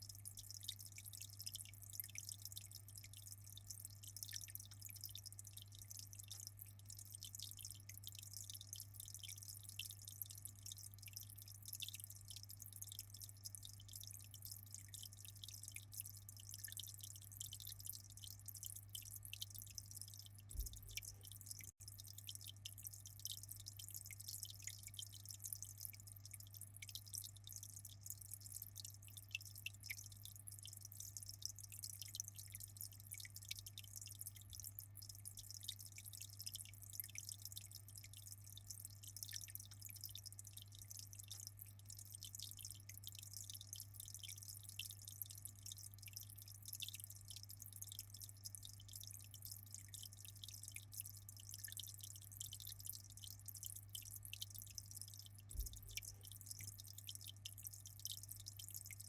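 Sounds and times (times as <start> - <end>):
aquarium water trickling and dripping: 0.0 - 59.0.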